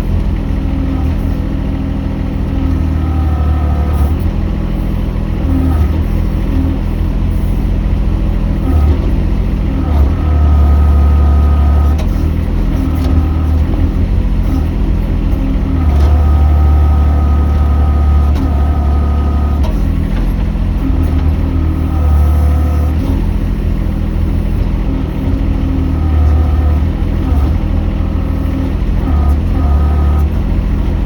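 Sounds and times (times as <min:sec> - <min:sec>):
excavator engine under load: 0:00.0 - 0:31.0
hydraulic whine: 0:00.0 - 0:31.0.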